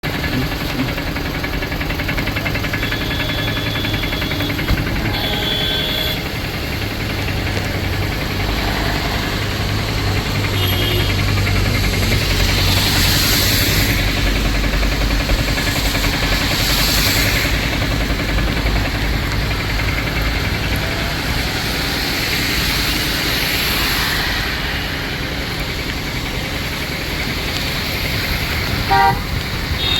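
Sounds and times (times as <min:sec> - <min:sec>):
low engine rumble: 0:00.0 - 0:29.9
steady rain: 0:00.0 - 0:29.9
vehicles hissing past on wet road: 0:00.1 - 0:29.9.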